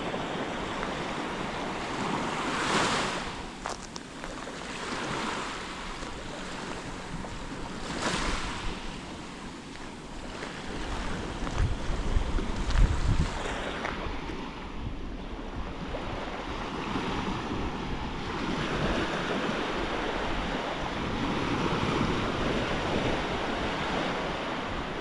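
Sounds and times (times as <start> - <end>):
sea waves breaking on shore: 0.0 - 25.0
wind buffeting microphone: 0.0 - 25.0.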